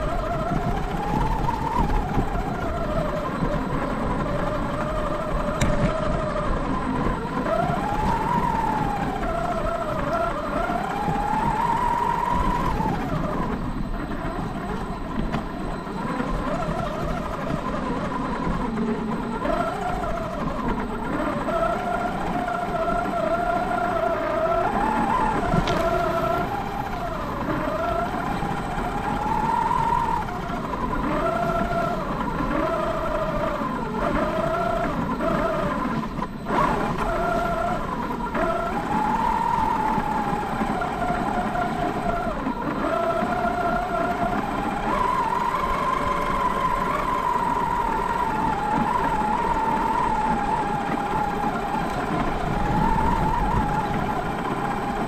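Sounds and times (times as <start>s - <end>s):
rc car motor whining: 0.0s - 55.0s
tyres rumbling through snow: 0.0s - 55.0s.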